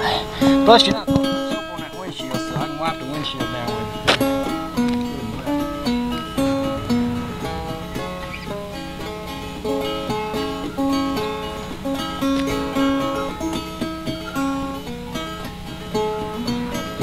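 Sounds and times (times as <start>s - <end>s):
acoustic guitar melody: 0.0s - 17.0s.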